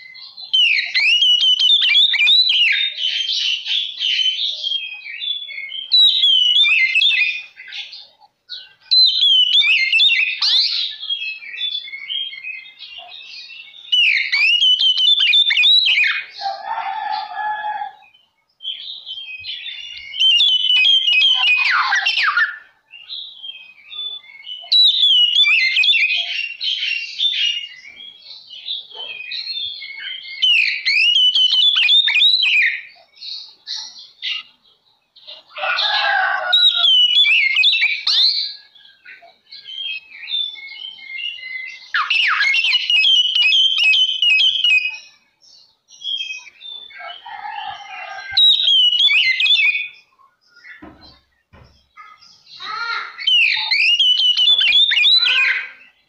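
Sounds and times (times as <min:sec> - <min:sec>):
songbird whistles and trills: 0:00.0 - 0:56.0.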